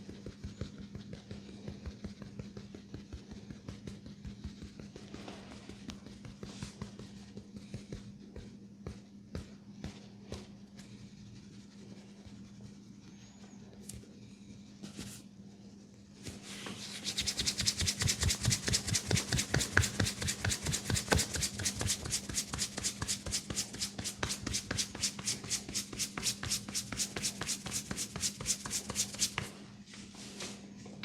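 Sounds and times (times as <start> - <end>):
hands rubbing hair: 0.7 - 12.8, 16.2 - 30.7.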